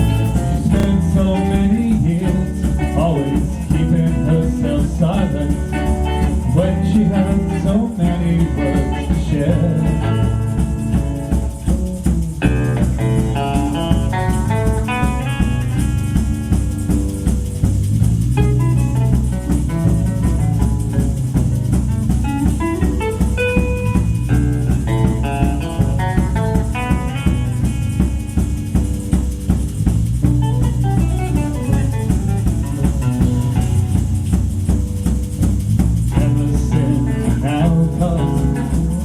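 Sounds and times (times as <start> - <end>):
bass: 0.0 - 39.0
drum kit: 0.0 - 39.0
guitar melody: 0.0 - 39.0.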